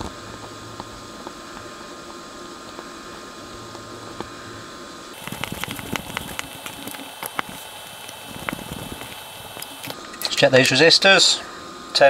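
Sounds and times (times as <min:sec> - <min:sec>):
background hiss and hum: 0:00.0 - 0:12.0.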